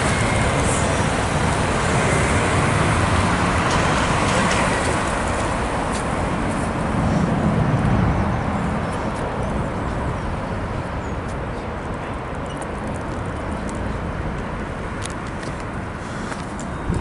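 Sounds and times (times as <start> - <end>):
distant jet engines roaring: 0.0 - 17.0.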